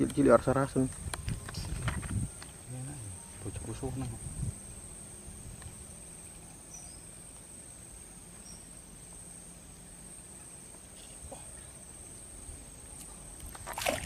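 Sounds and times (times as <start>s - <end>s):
faint outdoor background noise: 0.0s - 14.0s
insect trilling: 0.0s - 14.0s.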